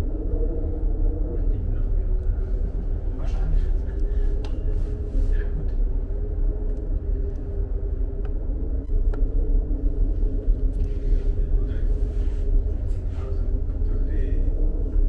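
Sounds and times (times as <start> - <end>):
cable car cabin rumbling: 0.0 - 15.0.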